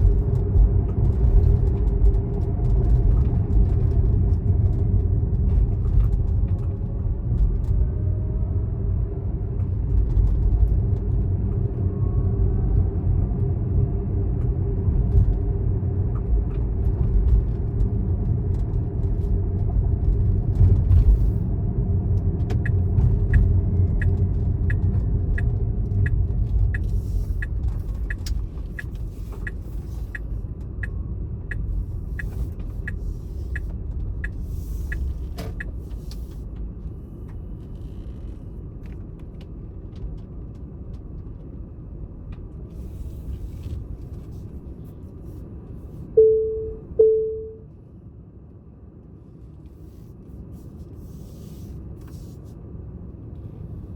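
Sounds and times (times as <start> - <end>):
vehicle rumble: 0.0 - 53.9.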